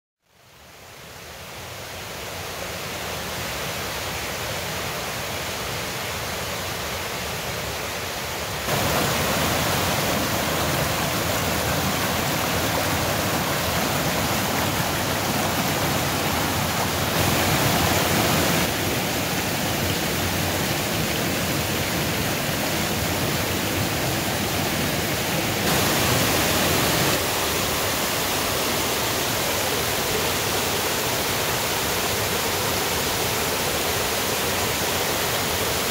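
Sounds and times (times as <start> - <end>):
creek rushing over rocks: 4.8 - 35.9.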